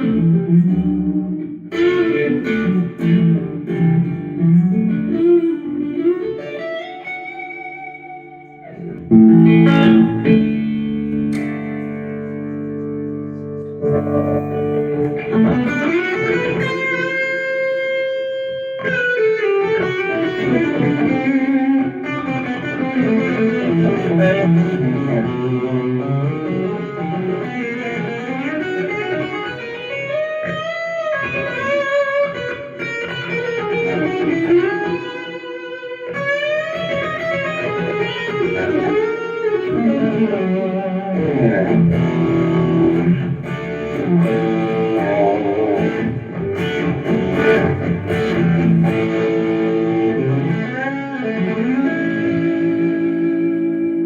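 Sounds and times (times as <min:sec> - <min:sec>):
electric guitar lead lines: 0:00.0 - 0:54.0.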